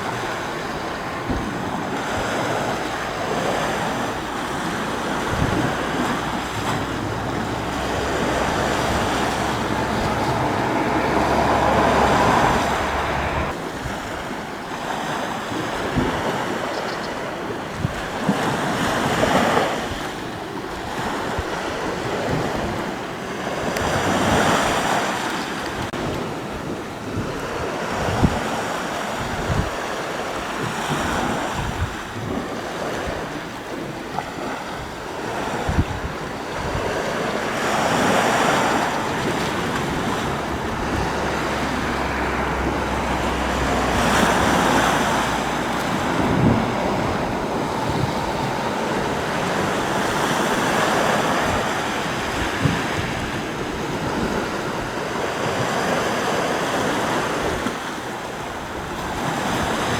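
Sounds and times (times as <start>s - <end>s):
sea waves washing onto shore: 0.0s - 59.9s
wind buffeting microphone: 0.0s - 59.9s.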